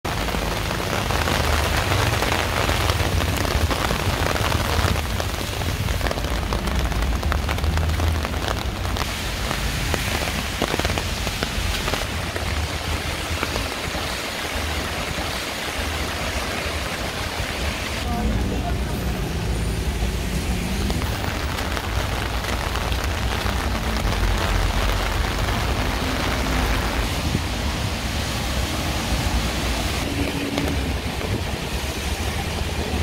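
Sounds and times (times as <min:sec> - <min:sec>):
heavy rain pouring: 0:00.0 - 0:33.0
raindrops ticking close by: 0:00.0 - 0:33.0.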